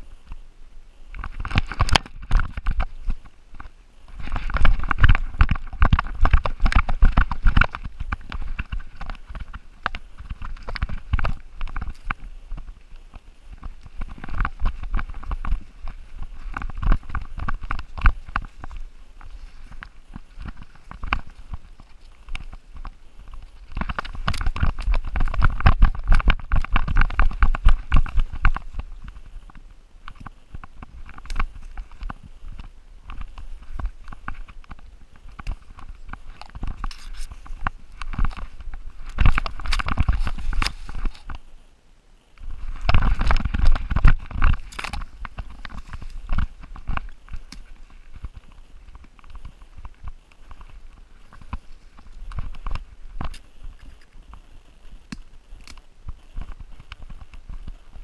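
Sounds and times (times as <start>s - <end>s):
brush rustling: 0.0s - 41.7s, 42.3s - 58.0s.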